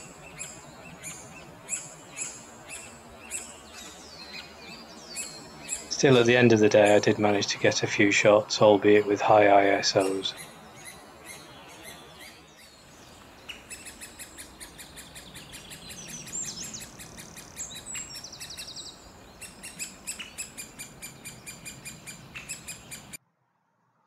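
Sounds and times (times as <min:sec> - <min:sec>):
bird trill: 0:00.0 - 0:07.8, 0:08.9 - 0:23.2
nestlings begging calls: 0:00.0 - 0:23.2.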